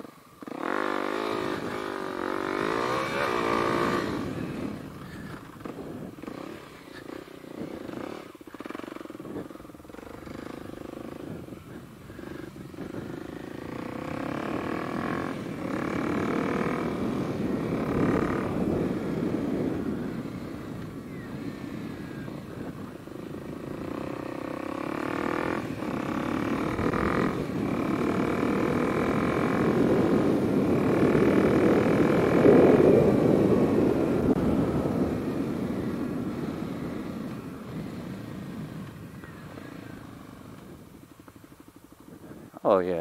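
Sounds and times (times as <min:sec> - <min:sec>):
dirt bike engine accelerating: 0:00.0 - 0:43.0.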